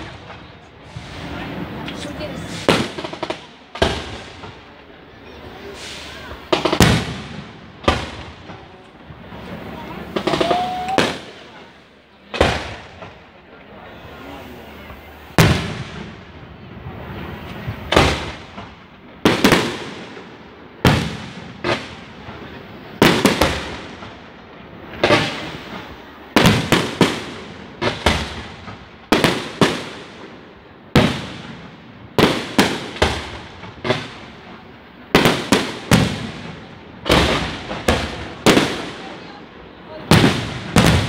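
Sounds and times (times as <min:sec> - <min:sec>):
fireworks bursting with bangs: 0:00.0 - 0:41.0.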